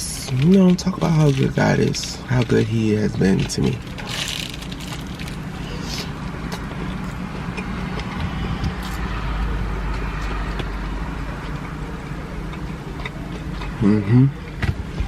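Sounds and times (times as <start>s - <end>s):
car engine and air conditioning hum: 0.0s - 15.0s
faint eating clicks and rustles: 0.1s - 10.8s, 11.4s - 13.8s.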